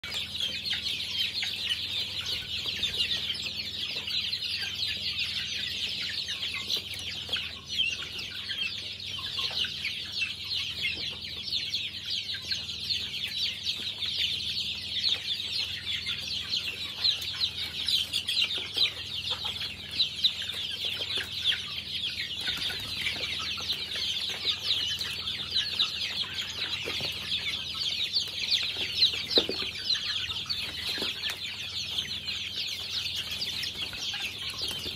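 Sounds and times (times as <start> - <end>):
chicks cheeping: 0.0 - 34.9.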